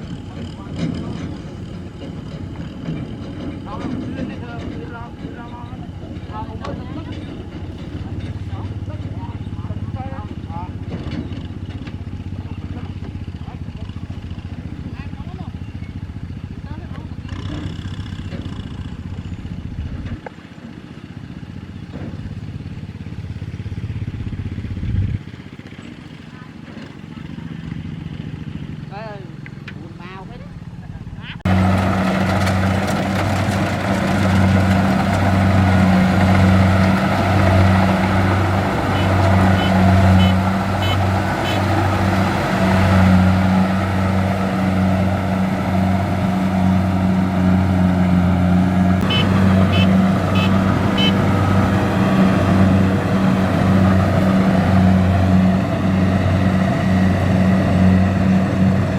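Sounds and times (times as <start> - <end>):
machinery noise: 0.0 - 16.0, 25.3 - 58.9
combine harvester diesel engine: 0.0 - 58.9.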